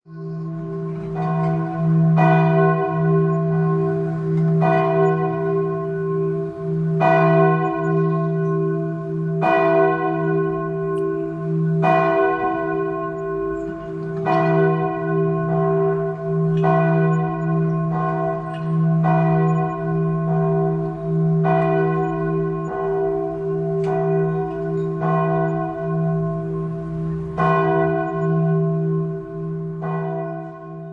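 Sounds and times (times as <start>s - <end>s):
church bell tolling: 0.1s - 30.9s.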